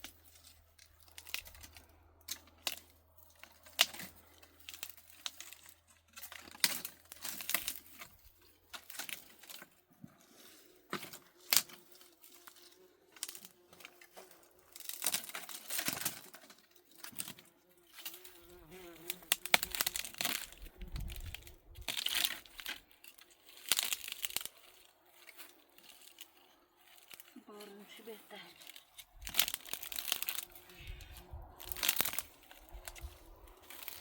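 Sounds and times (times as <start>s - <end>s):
rustling and crinkling: 0.0s - 34.0s.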